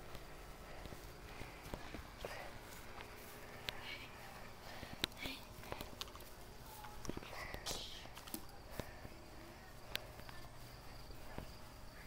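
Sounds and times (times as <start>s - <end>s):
high insect trill: 2.1s - 12.0s.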